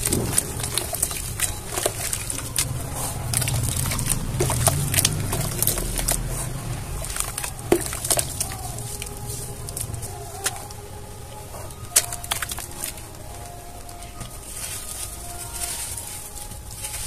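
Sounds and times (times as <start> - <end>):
hands squelching wet cement: 0.0 - 17.0.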